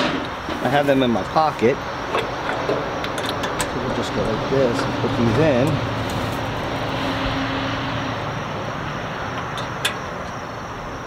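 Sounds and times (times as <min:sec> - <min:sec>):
engine noise: 0:00.0 - 0:11.0.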